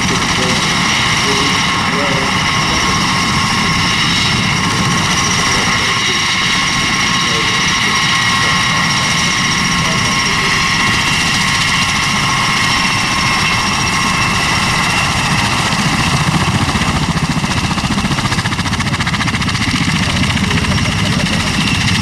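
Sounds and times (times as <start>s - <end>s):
turboshaft engine whine: 0.0s - 22.0s.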